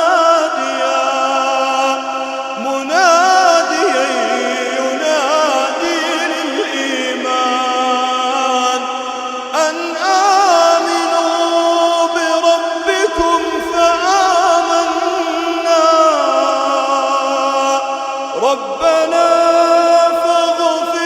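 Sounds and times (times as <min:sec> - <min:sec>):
person chanting verse: 0:00.0 - 0:21.0.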